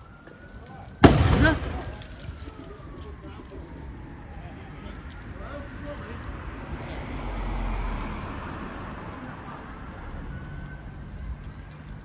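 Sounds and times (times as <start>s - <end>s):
road vehicle passing: 1.0s - 12.0s.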